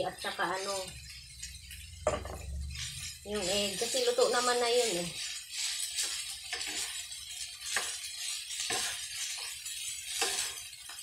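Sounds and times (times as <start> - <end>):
frying hiss: 0.0 - 11.0
spatula scraping metal pan: 0.0 - 11.0.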